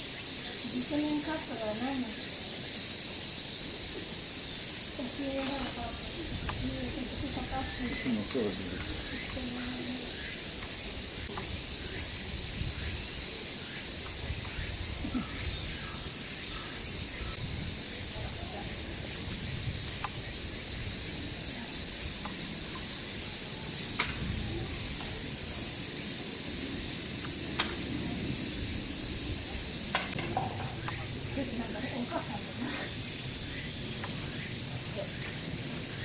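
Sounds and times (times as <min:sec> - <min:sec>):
cicada chorus buzzing: 0:00.0 - 0:36.0.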